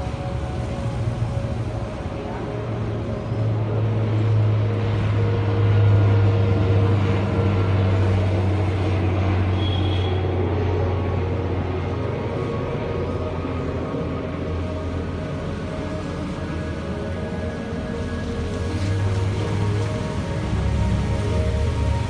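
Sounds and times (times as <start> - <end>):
engine low hum: 0.0 - 22.0.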